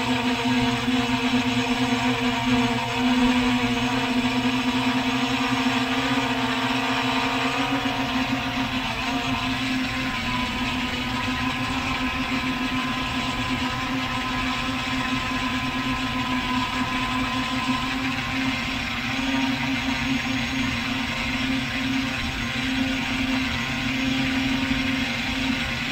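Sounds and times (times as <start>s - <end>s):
drone motors humming: 0.0s - 25.9s.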